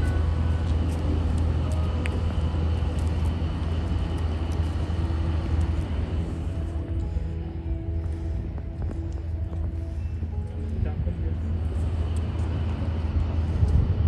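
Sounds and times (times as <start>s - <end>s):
faint higher hum: 0.0s - 14.0s
ship diesel engine drone: 0.0s - 14.0s.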